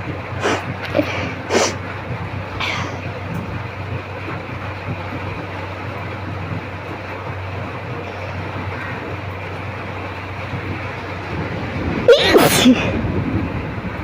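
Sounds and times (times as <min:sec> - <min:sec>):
constant rushing noise: 0:00.0 - 0:14.0
steady low hum: 0:00.0 - 0:14.0.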